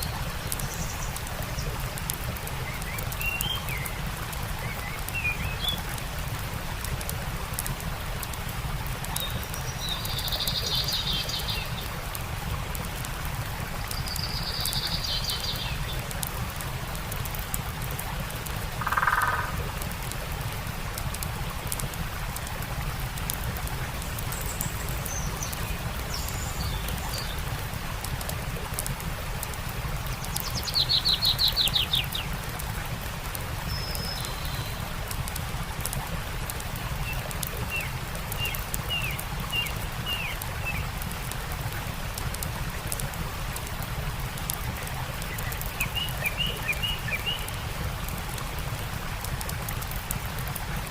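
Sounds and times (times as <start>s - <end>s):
campfire crackling: 0.0s - 50.9s
stream rushing: 0.0s - 50.9s.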